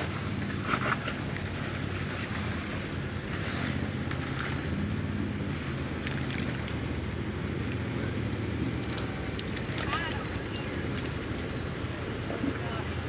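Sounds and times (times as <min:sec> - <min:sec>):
car engine hum: 0:00.0 - 0:13.0.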